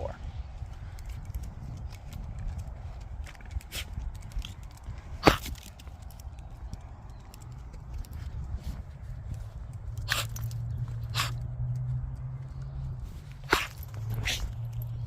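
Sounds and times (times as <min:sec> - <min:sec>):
light footsteps: 0:00.2 - 0:15.0.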